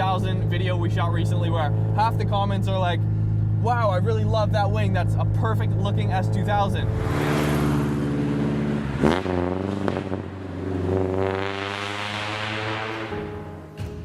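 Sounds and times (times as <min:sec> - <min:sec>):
car engine accelerating: 0:00.0 - 0:13.7.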